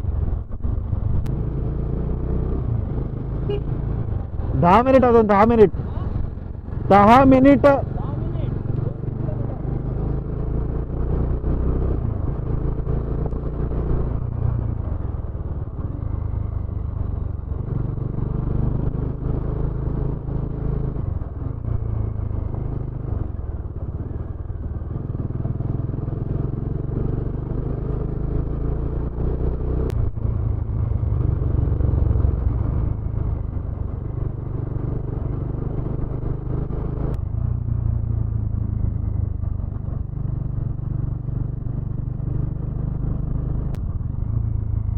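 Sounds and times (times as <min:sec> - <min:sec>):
motorcycle engine running: 0:00.0 - 0:44.9
road noise: 0:00.0 - 0:44.9.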